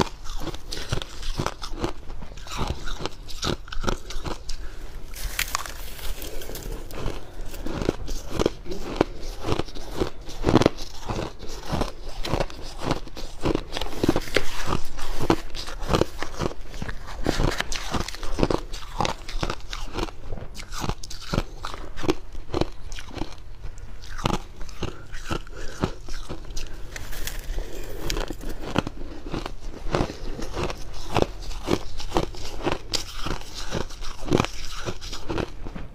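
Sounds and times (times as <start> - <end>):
chewing crunchy frost: 0.0 - 35.9.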